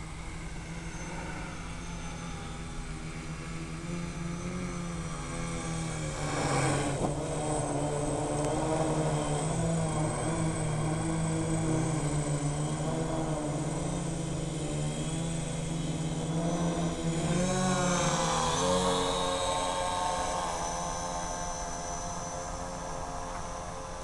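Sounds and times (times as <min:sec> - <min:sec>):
drone propellers buzzing: 0:00.0 - 0:24.0.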